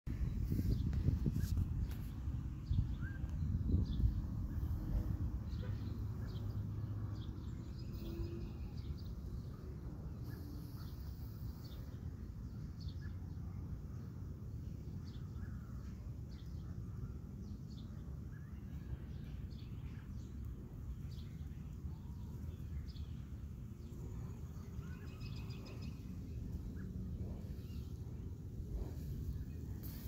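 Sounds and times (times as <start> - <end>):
small birds chirping: 0.1 - 30.0
steady low rumble: 0.1 - 30.0.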